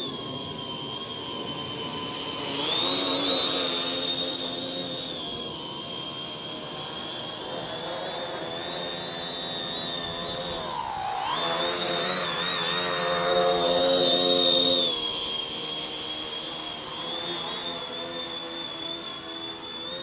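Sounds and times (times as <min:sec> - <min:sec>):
drone motors and propellers whining: 0:00.0 - 0:20.0.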